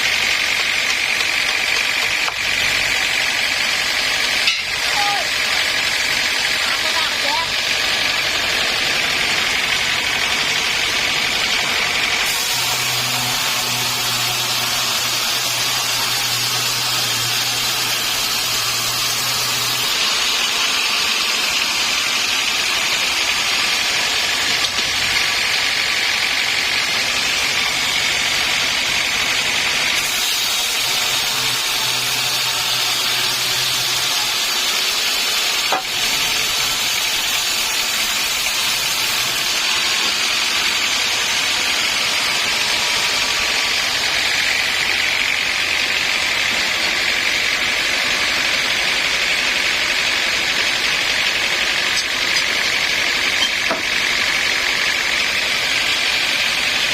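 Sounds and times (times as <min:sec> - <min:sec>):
saw cutting through log: 0:00.0 - 0:56.9.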